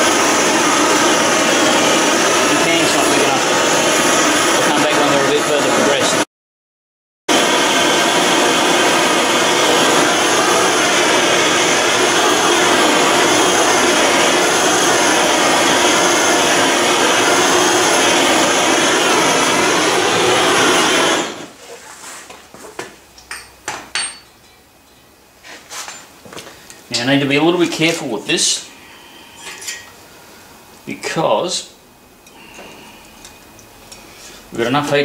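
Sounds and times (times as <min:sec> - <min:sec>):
gas torch hissing: 0:00.0 - 0:06.2, 0:07.3 - 0:21.6, 0:25.4 - 0:35.0.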